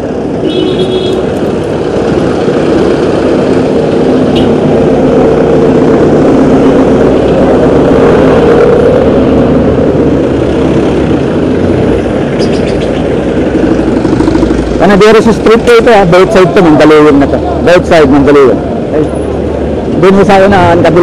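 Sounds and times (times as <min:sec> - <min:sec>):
bus engine running: 0:00.0 - 0:21.0
slow street traffic engines: 0:00.0 - 0:21.0.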